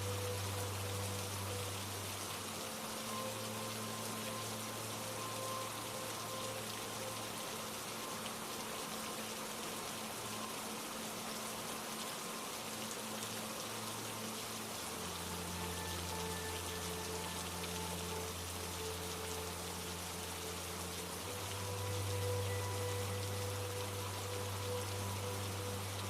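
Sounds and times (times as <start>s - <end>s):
ambient music low notes: 0.0s - 26.0s
steady rain: 0.0s - 26.0s.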